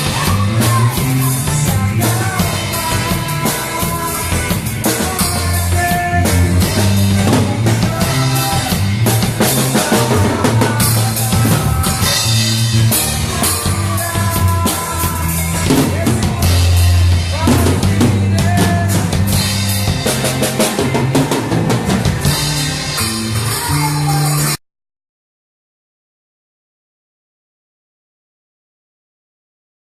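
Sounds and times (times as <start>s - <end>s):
band playing worship song: 0.0s - 24.6s
bass notes: 0.0s - 24.6s
drum kit: 0.0s - 24.6s.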